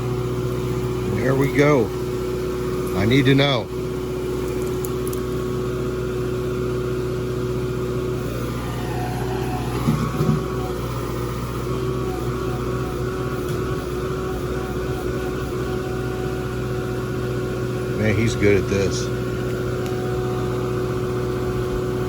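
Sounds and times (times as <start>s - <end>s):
digging machine engine running: 0.0s - 22.0s.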